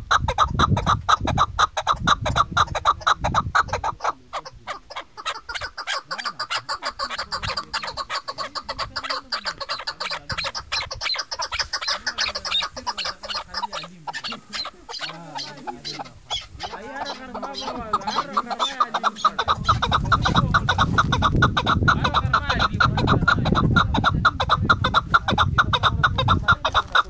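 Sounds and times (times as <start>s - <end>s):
partridge clucking call: 0.0s - 27.0s.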